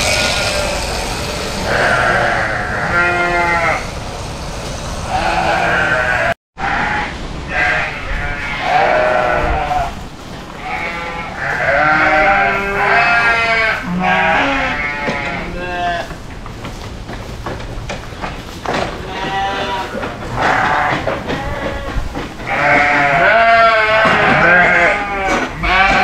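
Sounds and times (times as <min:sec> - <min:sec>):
sheep bleating: 0:00.0 - 0:04.0, 0:05.1 - 0:10.0, 0:10.6 - 0:16.1, 0:19.0 - 0:26.0.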